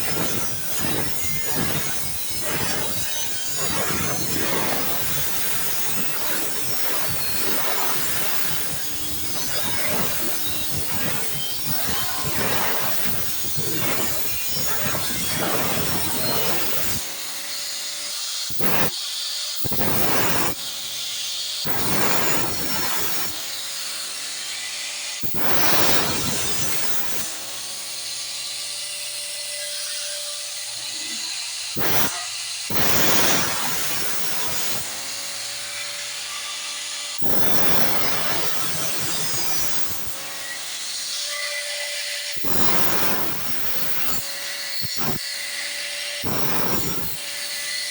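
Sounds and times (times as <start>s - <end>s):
angle grinder cutting metal: 0.0s - 47.9s.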